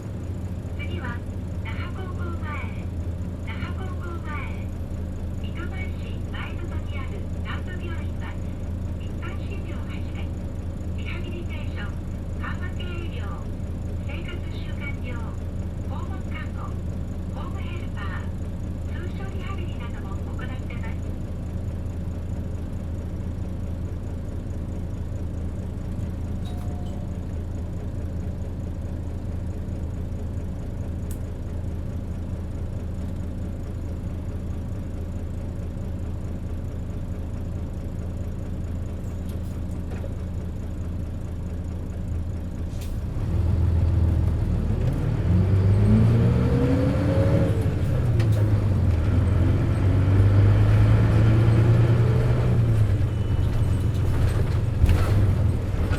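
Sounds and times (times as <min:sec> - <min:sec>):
bus engine idling: 0:00.0 - 0:55.9
bus pulling away with whine: 0:00.0 - 0:55.9.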